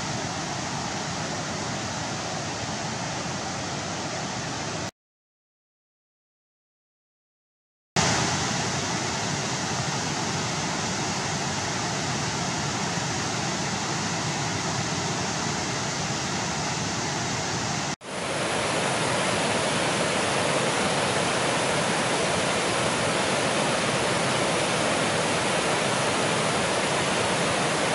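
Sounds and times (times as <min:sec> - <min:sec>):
white water rushing over rapids: 0:00.0 - 0:04.9, 0:08.0 - 0:27.9.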